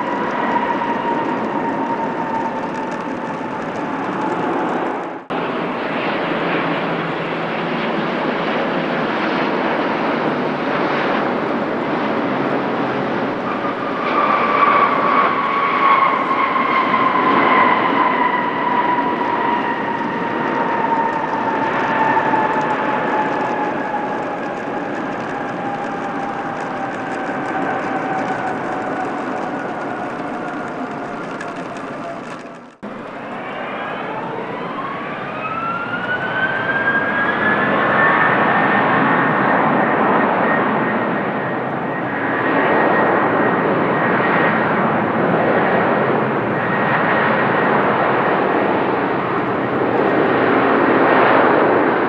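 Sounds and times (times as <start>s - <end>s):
jet airliner passing: 0.0s - 52.0s
jet engine whine: 0.0s - 52.0s.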